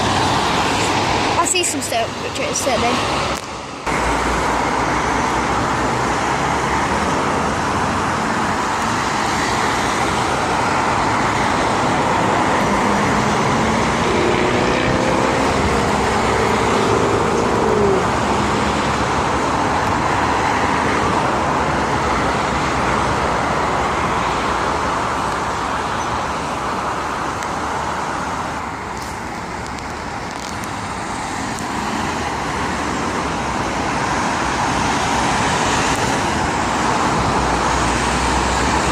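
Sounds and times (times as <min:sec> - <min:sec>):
road traffic noise: 0:00.0 - 0:38.9.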